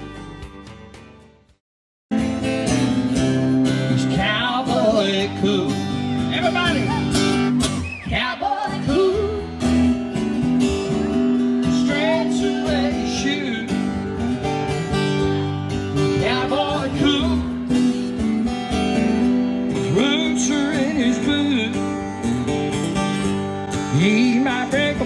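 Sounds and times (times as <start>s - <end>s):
acoustic guitars strumming: 0.0s - 1.5s, 2.1s - 25.0s.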